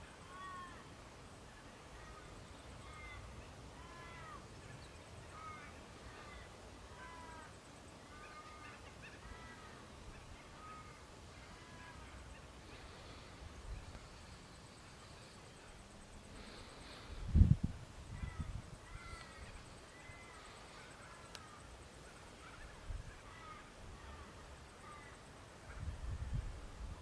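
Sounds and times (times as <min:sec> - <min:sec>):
distant birds calling: 0:00.0 - 0:26.2.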